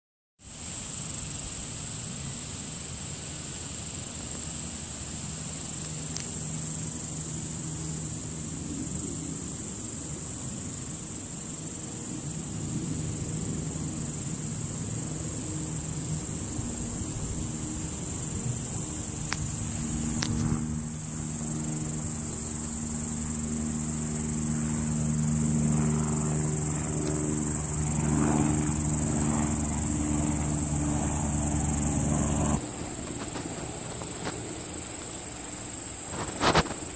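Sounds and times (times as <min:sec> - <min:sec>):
insect trilling chorus: 0:00.4 - 0:36.9
low droning hum: 0:00.7 - 0:36.9.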